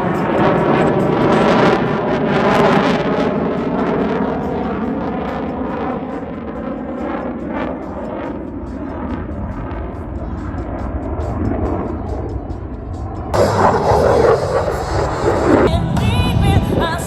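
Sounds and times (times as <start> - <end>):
airplane flying past: 0.0 - 17.0.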